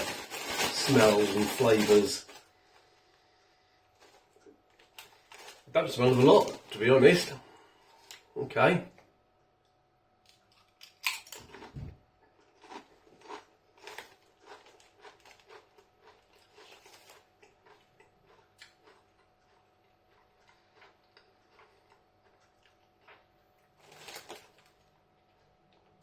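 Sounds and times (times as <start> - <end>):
tortilla chips crunching: 0.0 - 2.5, 4.0 - 7.2, 10.3 - 26.0.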